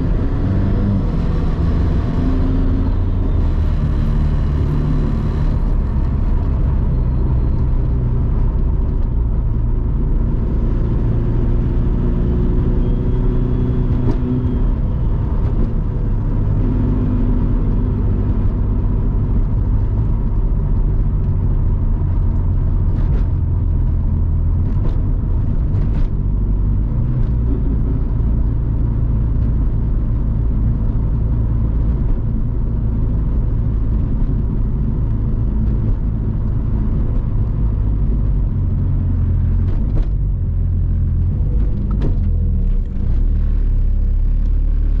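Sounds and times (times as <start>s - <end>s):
car engine drone: 0.0s - 45.0s.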